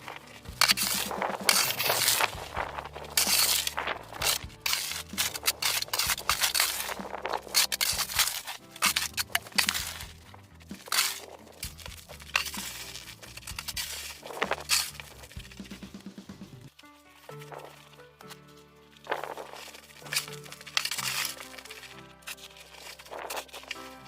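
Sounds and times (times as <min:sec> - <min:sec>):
snow crunching: 0:00.0 - 0:24.0
snow shovel scraping: 0:00.0 - 0:24.0.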